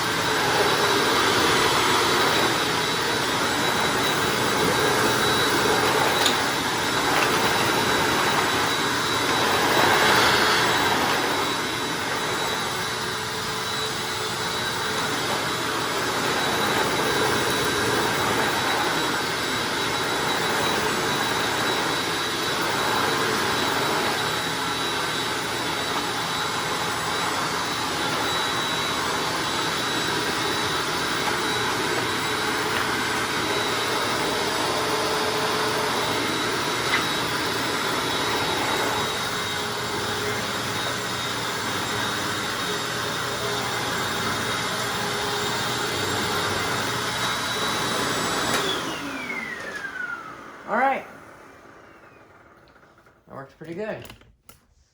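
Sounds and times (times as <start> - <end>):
upright vacuum cleaner running: 0.0 - 54.3.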